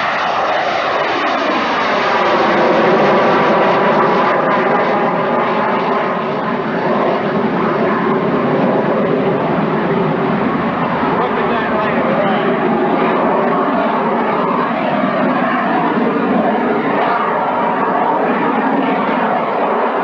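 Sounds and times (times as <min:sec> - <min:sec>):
jet engine whine and roar: 0:00.0 - 0:20.0.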